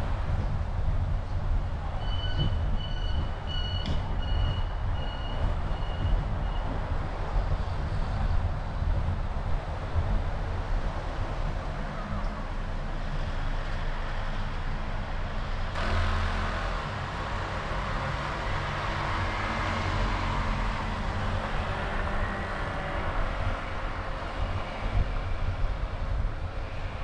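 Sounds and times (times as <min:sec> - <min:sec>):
low engine and road rumble: 0:00.0 - 0:27.0.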